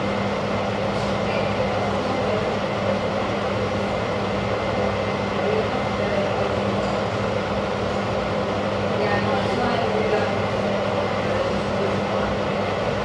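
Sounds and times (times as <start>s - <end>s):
steady mechanical drone: 0.0s - 13.0s.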